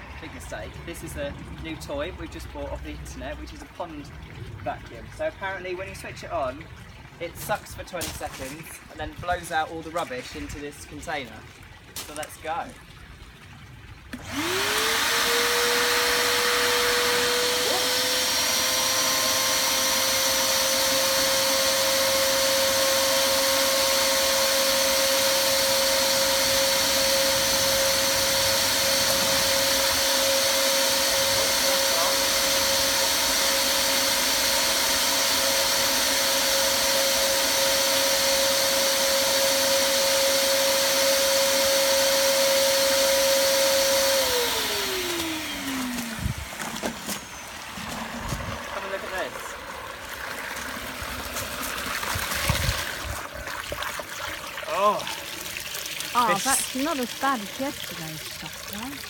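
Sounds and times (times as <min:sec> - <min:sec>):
pond vacuum motor humming: 0:08.5 - 0:59.0.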